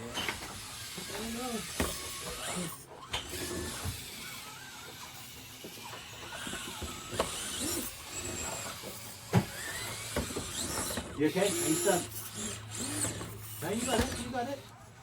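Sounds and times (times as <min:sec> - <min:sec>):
small electric motor and gears whirring: 0:00.0 - 0:15.0.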